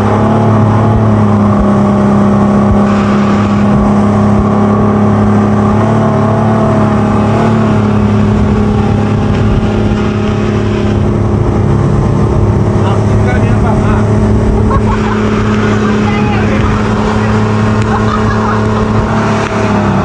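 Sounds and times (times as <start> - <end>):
motorboat engine running: 0.0 - 20.0
water rushing past hull: 0.0 - 20.0.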